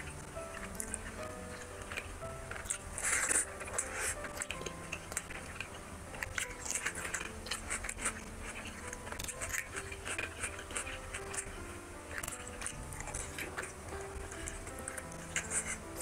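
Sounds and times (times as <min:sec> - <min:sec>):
chewing: 0:00.0 - 0:16.0
fingers mixing food on plate: 0:00.0 - 0:16.0
soft background music: 0:00.0 - 0:16.0.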